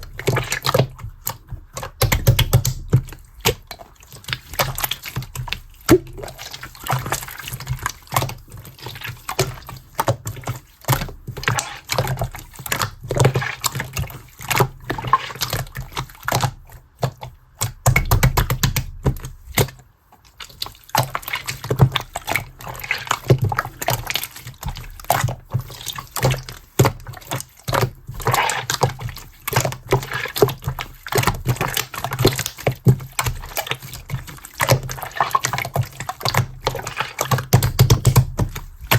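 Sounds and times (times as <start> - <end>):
slime squelching and clicking: 0.0 - 38.9.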